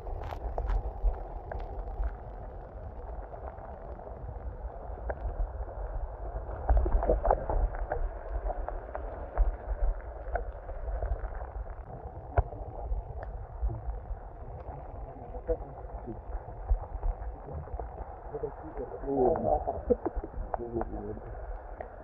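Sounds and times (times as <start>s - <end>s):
small underwater clicks and knocks: 0.0s - 5.6s, 6.4s - 22.0s
muffled underwater rumble: 0.0s - 22.0s.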